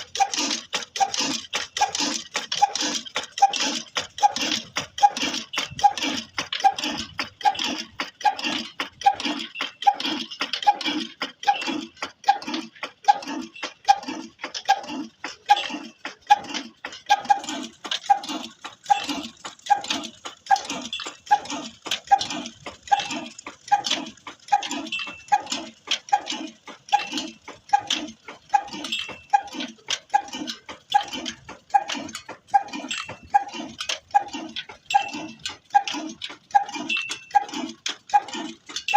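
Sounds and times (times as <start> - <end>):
stationary engine running slowly: 0.0 - 38.9.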